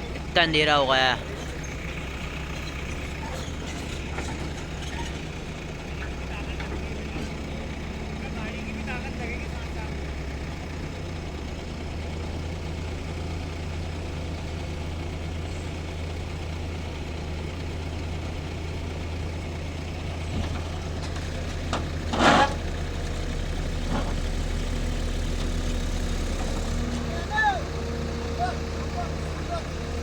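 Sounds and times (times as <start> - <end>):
heavy diesel machinery droning: 0.0 - 30.0.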